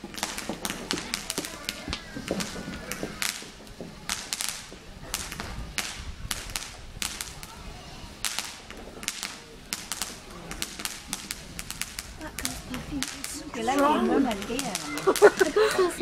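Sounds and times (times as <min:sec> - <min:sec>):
fireworks cracks and bangs: 0:00.0 - 0:16.0.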